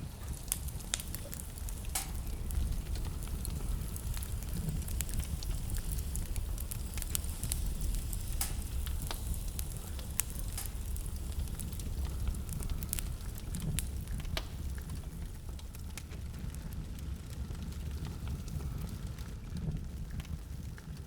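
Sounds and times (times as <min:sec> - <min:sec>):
steady low rumble: 0:00.0 - 0:21.0
wood fire crackling: 0:00.0 - 0:21.0
sharp pops of fire: 0:00.1 - 0:19.0.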